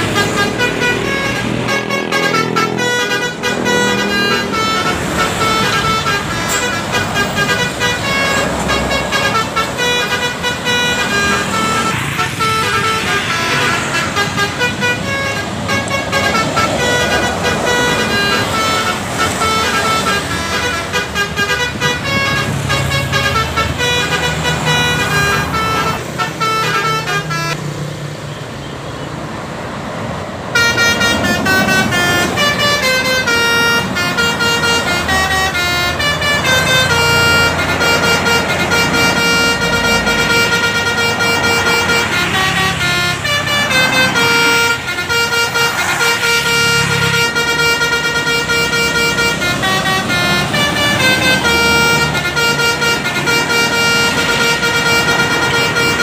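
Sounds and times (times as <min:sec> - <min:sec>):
multi-tone bus air horns: 0:00.0 - 0:27.7, 0:30.4 - 0:56.0
bus engines passing: 0:00.0 - 0:56.0
road noise: 0:00.0 - 0:56.0.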